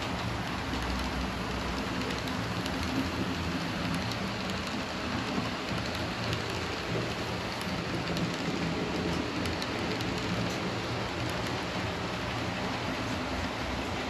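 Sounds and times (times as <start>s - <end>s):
model train coaches rolling on track: 0.0s - 14.0s
wheels clicking over rails: 0.0s - 14.0s.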